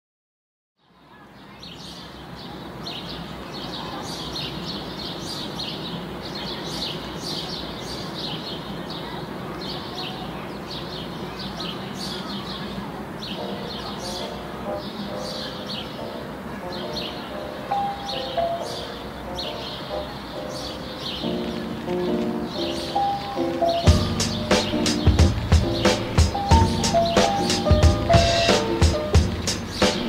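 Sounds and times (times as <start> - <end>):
birds chirping: 0.8 - 30.0.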